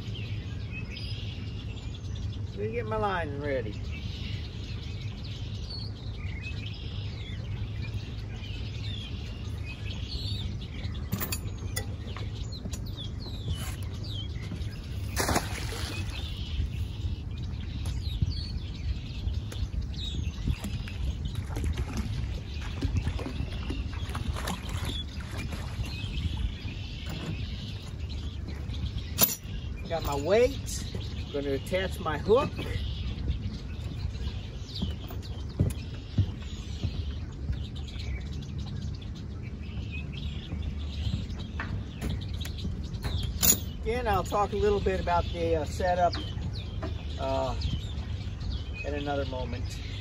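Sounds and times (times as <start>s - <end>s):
songbirds chirping: 0.0s - 50.0s
steady low rumble: 0.0s - 50.0s.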